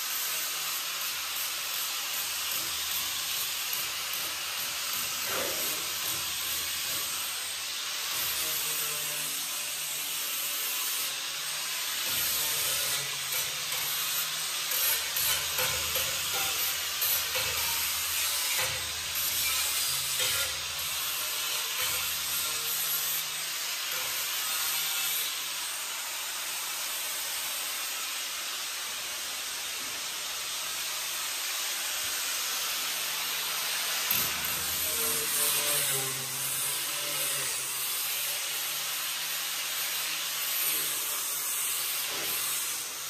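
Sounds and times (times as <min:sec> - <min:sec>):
angle grinder on steel: 0:00.0 - 0:43.0.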